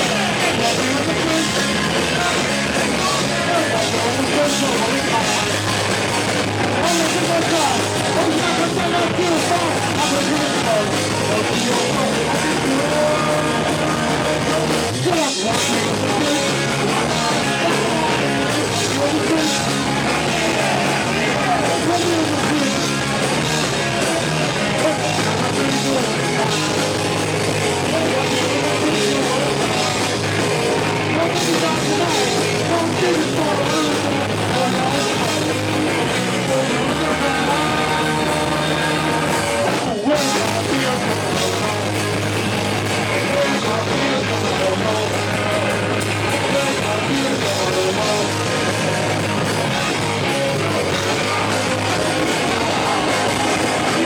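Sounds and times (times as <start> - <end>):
person singing: 0.0 - 54.0
punk rock band playing: 0.0 - 54.0.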